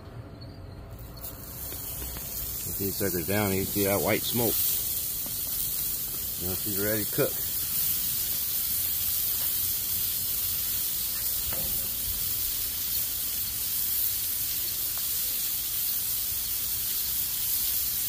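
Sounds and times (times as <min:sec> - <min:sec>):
meat sizzling on a griddle: 0:01.0 - 0:18.0.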